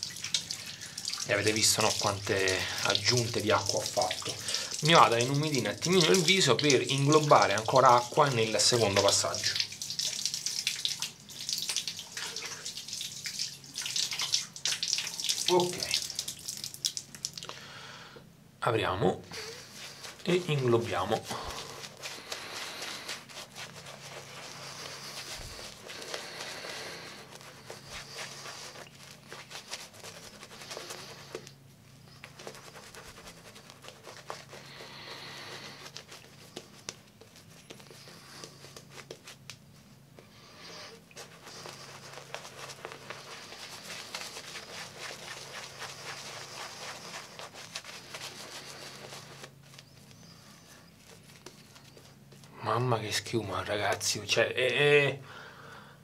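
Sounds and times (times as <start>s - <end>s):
shaving brush squishing lather: 0.0s - 17.4s, 19.4s - 54.5s.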